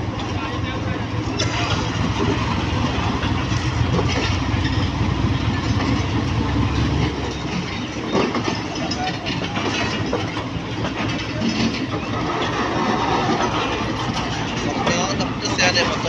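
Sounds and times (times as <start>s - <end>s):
train wheels rumbling on track: 0.0s - 16.0s
clicks over rail joints: 1.2s - 16.0s.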